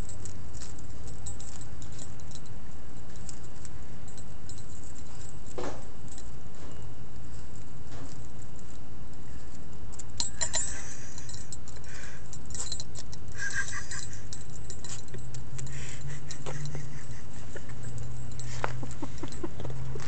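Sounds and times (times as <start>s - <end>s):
collar tag jingling: 0.0s - 20.0s
low hum: 0.0s - 20.0s.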